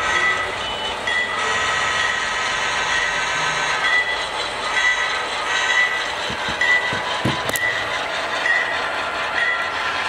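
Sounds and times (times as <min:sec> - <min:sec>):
model locomotive running: 0:00.0 - 0:10.0.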